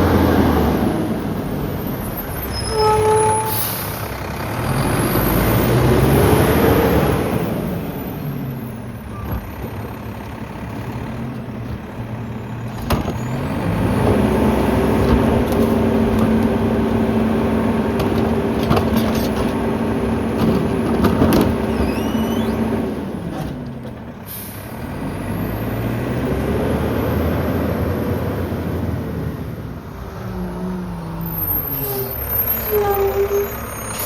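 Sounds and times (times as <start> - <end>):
diesel truck engine running: 3.1 - 34.0.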